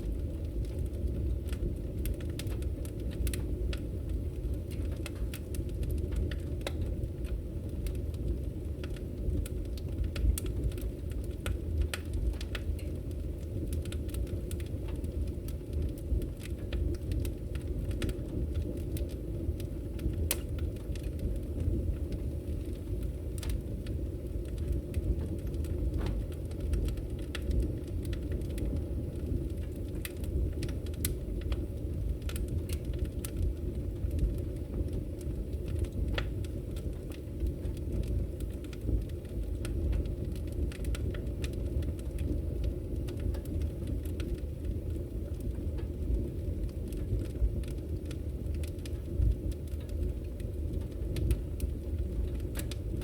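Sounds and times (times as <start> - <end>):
flames rumbling: 0.0 - 53.0
wood crackling and popping: 0.0 - 53.0.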